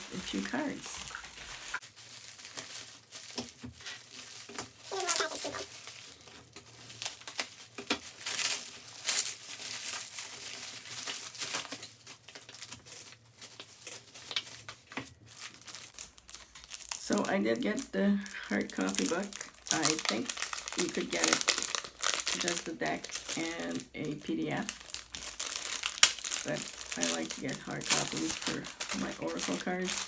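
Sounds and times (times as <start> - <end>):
package wrapping crinkling and tearing: 0.0 - 30.0.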